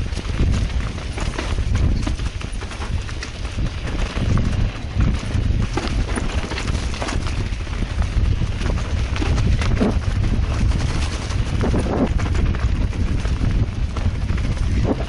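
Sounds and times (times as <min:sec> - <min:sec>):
bike rattling and knocking: 0:00.0 - 0:15.0
wind rumble on microphone: 0:00.0 - 0:15.0.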